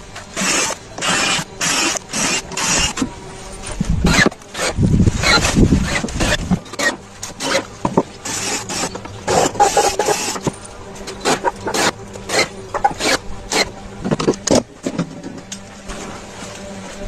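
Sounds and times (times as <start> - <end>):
wood scraping strokes: 0.0 - 17.0.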